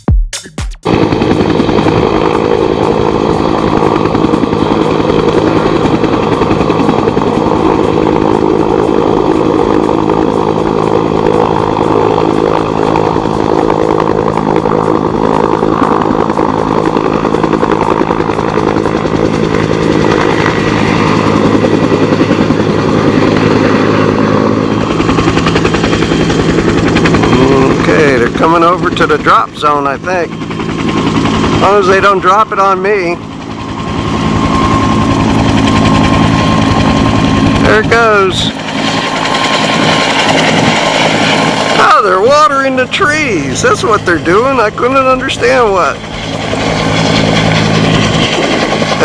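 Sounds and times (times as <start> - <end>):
helicopter rotor chop: 0.8 - 49.0.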